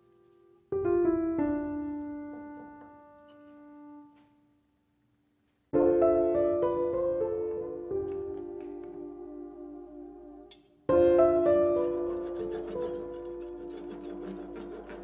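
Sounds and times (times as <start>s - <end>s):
piano notes ringing: 0.0s - 4.2s, 5.7s - 15.0s.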